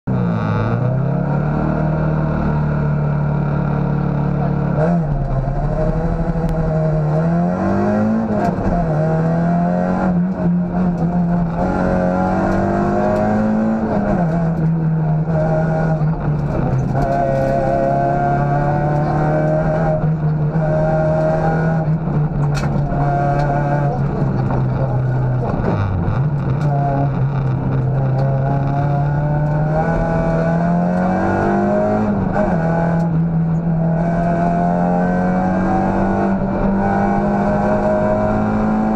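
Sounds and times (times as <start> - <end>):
rally car engine revving: 0.1 - 38.9.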